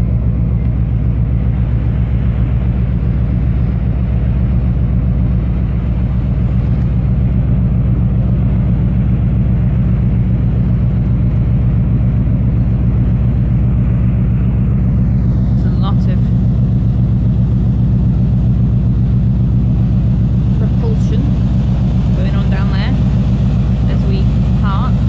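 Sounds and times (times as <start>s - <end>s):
ship diesel engine drone: 0.0s - 25.0s.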